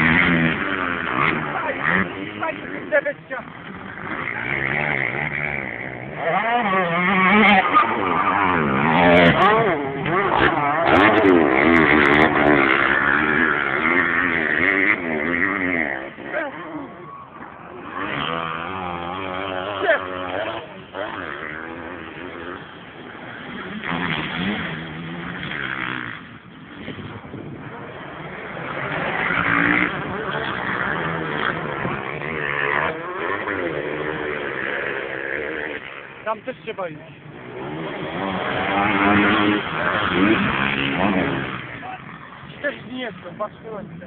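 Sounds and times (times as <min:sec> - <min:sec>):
motocross bikes revving: 0:00.0 - 0:44.0.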